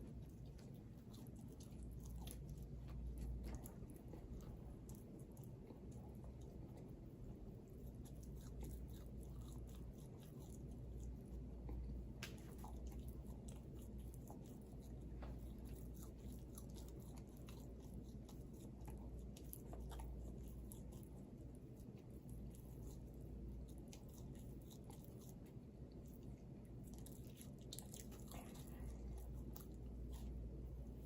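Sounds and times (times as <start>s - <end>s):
chewing and mouth noises: 0.0s - 31.0s
steady low hum: 0.0s - 31.0s.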